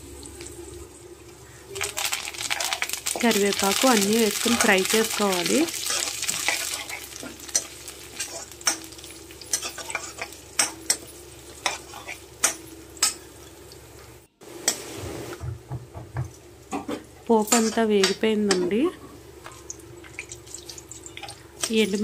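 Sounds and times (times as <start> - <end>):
spices sizzling in oil: 0.0 - 15.5, 16.3 - 22.0.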